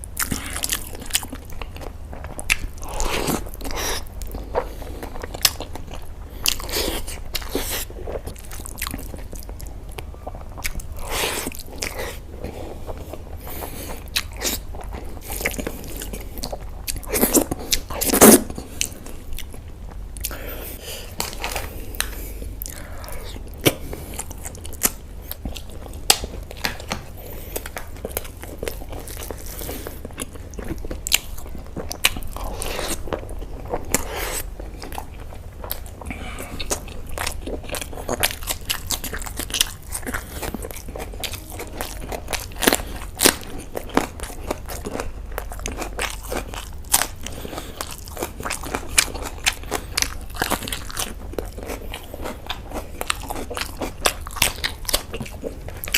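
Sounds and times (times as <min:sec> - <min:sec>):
chewing with sharp crunches: 0:00.0 - 0:55.9
steady low hum: 0:00.0 - 0:55.9.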